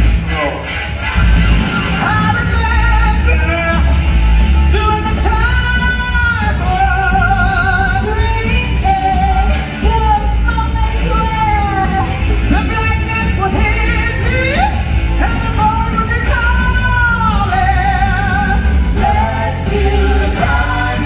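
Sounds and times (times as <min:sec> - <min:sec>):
rock band backing: 0:00.0 - 0:21.0
vocalist singing with vibrato: 0:01.9 - 0:21.0.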